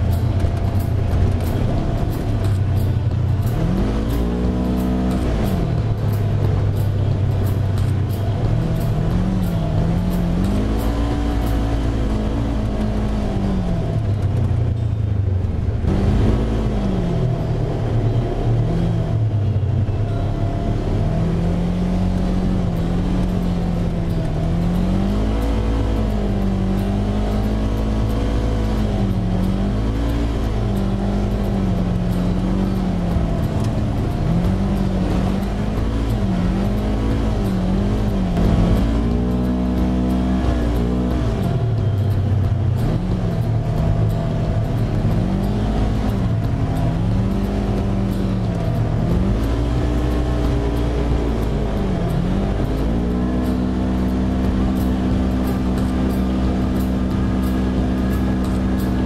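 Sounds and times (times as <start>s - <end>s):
utility vehicle engine revving: 0.0s - 59.0s.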